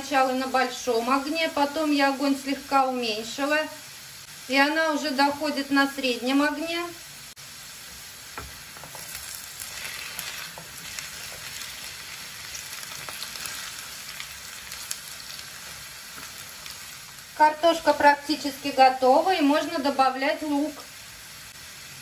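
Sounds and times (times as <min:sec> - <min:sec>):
potatoes sizzling in oil: 0:00.0 - 0:22.0.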